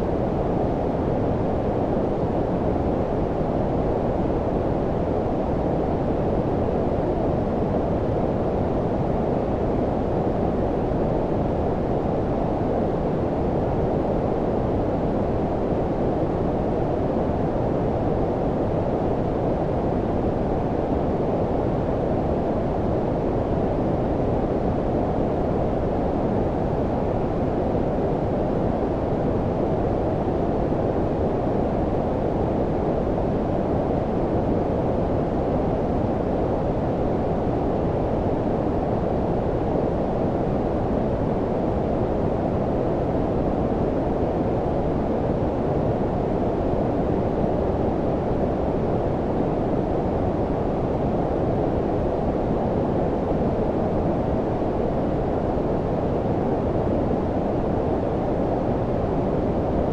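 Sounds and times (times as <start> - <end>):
brown noise rumbling hiss: 0.0 - 59.9.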